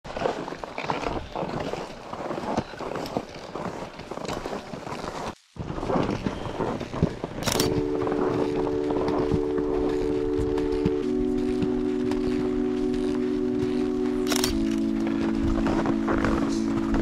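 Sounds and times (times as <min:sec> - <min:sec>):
skis crunching over snow: 0:00.1 - 0:17.0
ski pole plants: 0:00.2 - 0:17.0.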